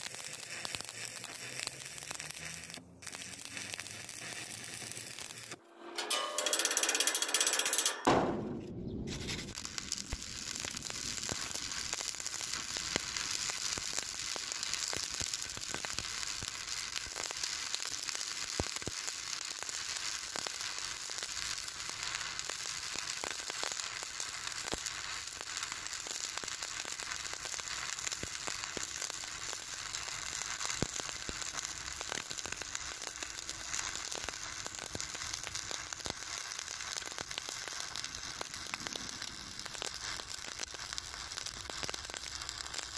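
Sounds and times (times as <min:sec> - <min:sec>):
sharp welding pops: 0:00.0 - 0:42.9
welding arc crackling and sizzling: 0:00.0 - 0:42.9.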